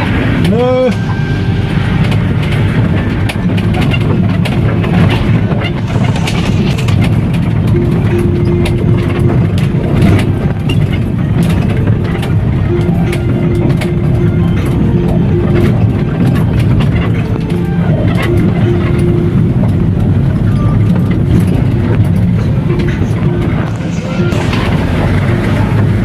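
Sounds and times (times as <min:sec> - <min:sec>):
motorcycle engine: 0:00.0 - 0:26.0
wind rumble on microphone: 0:00.0 - 0:26.0.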